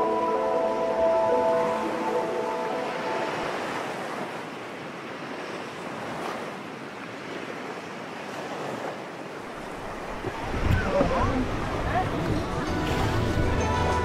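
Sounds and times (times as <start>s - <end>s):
sea water rushing: 0.0s - 14.0s
wind: 0.0s - 14.0s.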